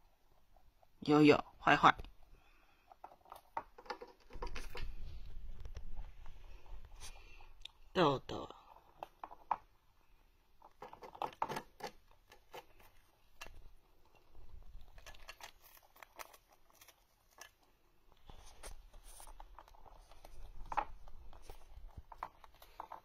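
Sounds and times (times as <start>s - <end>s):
rabbit crunching dried grass: 2.9s - 23.0s.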